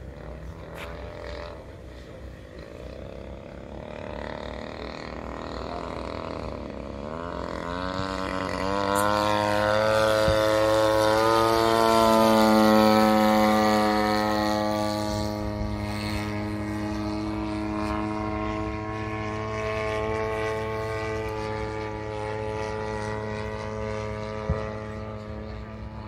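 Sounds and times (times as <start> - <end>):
model airplane propeller engine: 0.0 - 26.0.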